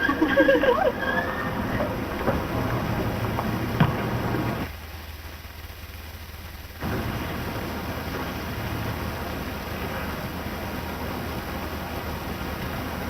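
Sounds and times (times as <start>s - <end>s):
film soundtrack hiss and crackle: 0.0s - 13.0s
low hum: 0.0s - 13.0s.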